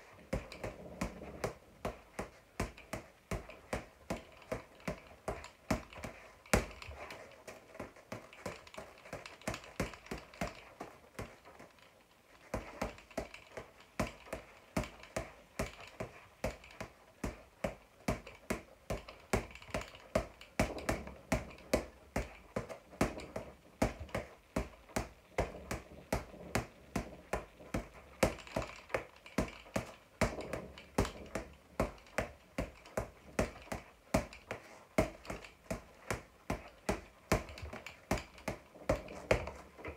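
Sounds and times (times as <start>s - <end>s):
gloves slapping punching ball: 0.0s - 39.9s.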